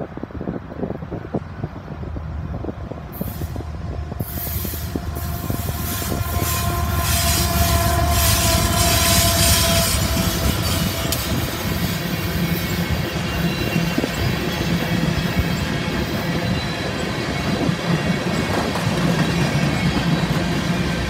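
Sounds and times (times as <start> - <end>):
diesel locomotives rumbling: 0.0 - 21.0.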